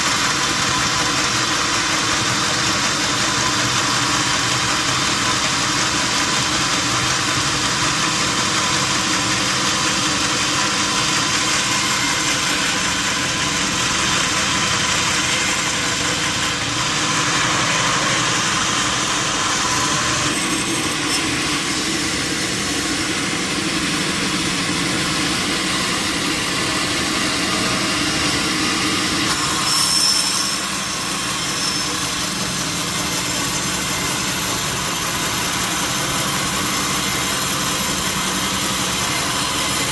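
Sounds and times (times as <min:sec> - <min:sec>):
sawmill machinery drone and hiss: 0:00.0 - 0:39.9.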